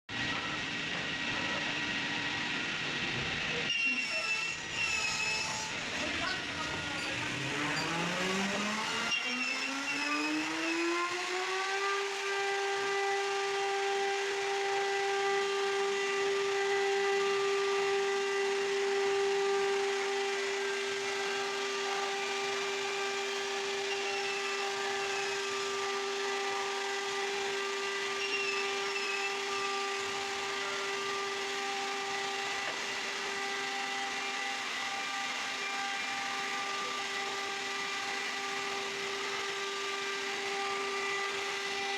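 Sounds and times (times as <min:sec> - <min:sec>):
router spindle whine: 0:00.1 - 0:41.9.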